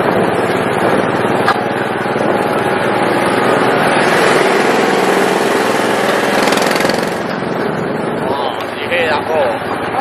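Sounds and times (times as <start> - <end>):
small petrol engine roaring: 0.0 - 10.0.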